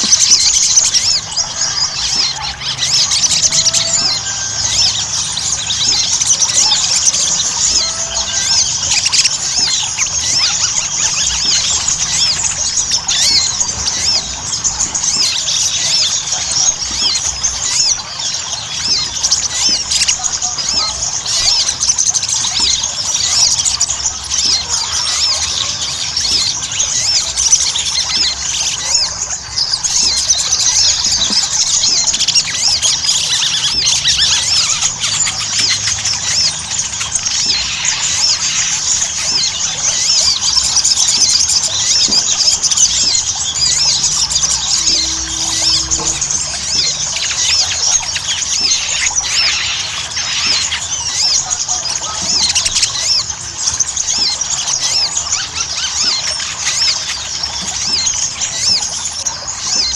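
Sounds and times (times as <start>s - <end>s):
bird chattering song: 0.0s - 59.9s.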